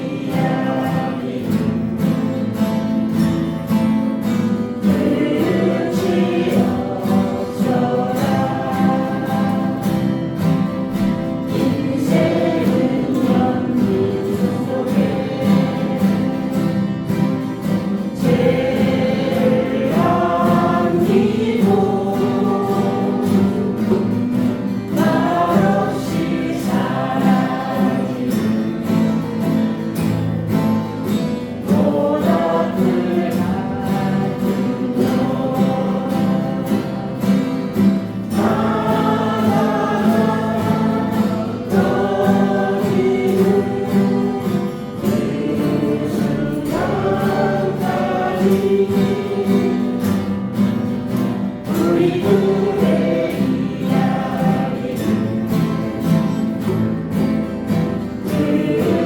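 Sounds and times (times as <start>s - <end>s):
acoustic guitar: 0.0s - 59.0s
group of voices singing: 0.0s - 59.0s.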